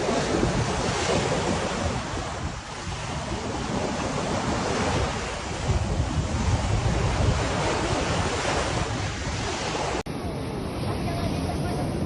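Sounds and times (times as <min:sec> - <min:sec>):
wind blowing over microphone: 0:00.0 - 0:12.0.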